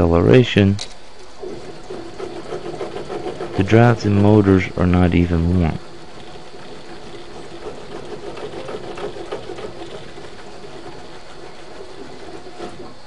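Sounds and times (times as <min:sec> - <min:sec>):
motor whine: 0:01.1 - 0:13.0
rapid gear clatter: 0:01.2 - 0:13.0.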